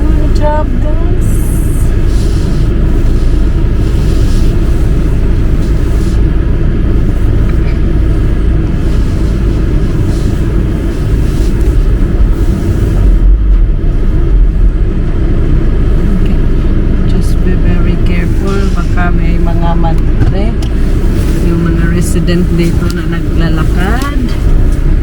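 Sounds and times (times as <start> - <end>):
car engine rumble: 0.0 - 25.0
road noise: 0.0 - 25.0.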